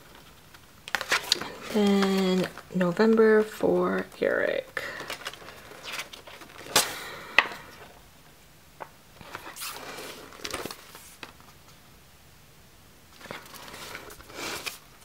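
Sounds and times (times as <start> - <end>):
calendar page rustling: 0.0 - 8.0, 9.2 - 11.8, 13.1 - 15.0.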